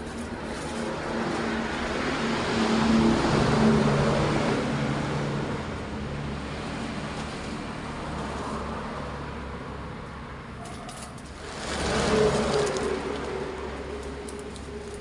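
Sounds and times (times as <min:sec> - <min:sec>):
motor vehicle passing by: 0:00.0 - 0:15.0.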